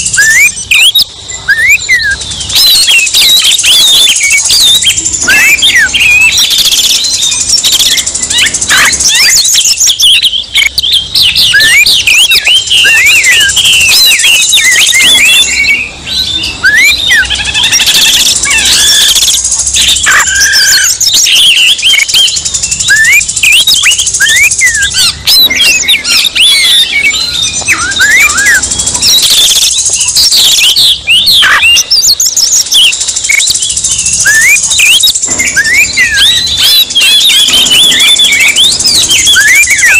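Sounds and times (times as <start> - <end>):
birds singing whistles and chirps: 0.0 - 39.9.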